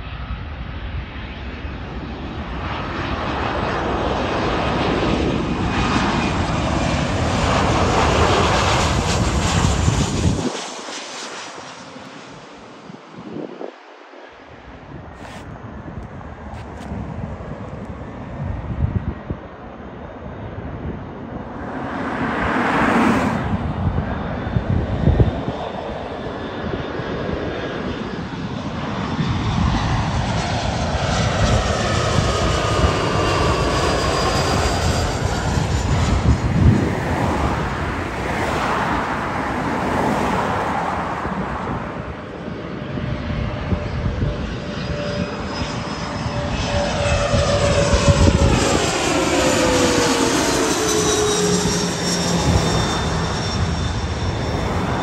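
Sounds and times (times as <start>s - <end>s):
jet airliners passing overhead: 0.0s - 55.0s
jet engine whine falling in pitch: 0.0s - 55.0s.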